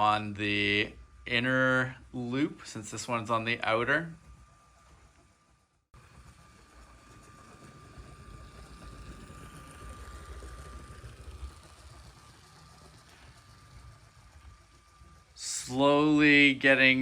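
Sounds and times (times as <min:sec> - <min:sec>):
thin motor whine: 0:00.0 - 0:17.0
toy train wheels rumbling: 0:00.0 - 0:17.0.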